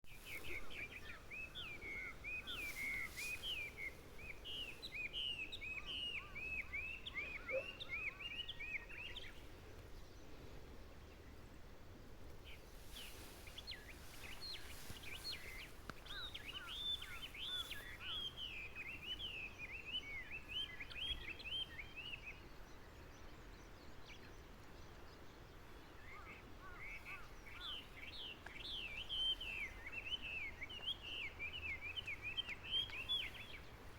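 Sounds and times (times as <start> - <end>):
songbird singing: 0.0 - 33.9
steady background hiss: 0.1 - 33.9.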